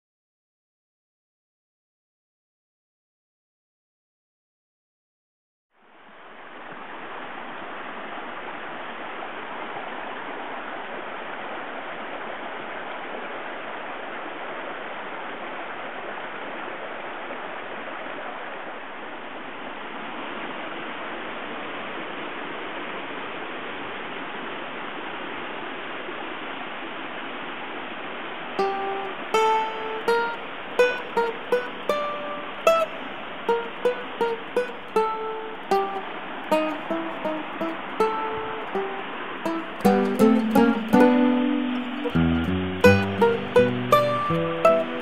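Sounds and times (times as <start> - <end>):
stream rushing over rocks: 5.8 - 45.0.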